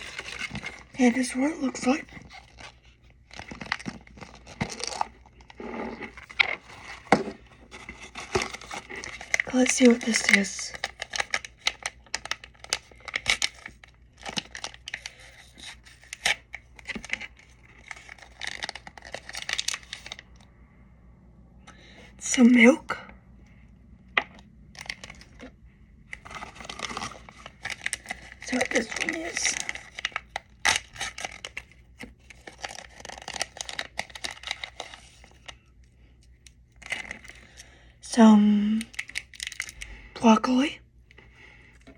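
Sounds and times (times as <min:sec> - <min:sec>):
plastic wrapper tearing and crinkling: 0:00.0 - 0:20.5, 0:24.3 - 0:37.7, 0:38.7 - 0:39.9.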